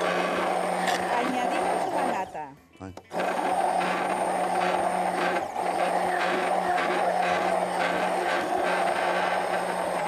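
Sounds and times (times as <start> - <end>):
electric hand blender running: 0.0 - 2.4, 3.1 - 10.0.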